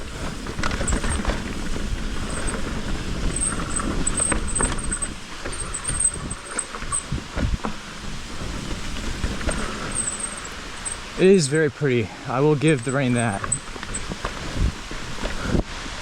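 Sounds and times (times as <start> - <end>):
high brake squeal: 0.0 - 7.2, 8.4 - 11.4, 12.2 - 15.6
knocks and rattles over rocks: 0.0 - 11.4, 12.5 - 15.6
bike tyres rumbling on trail: 0.0 - 16.0.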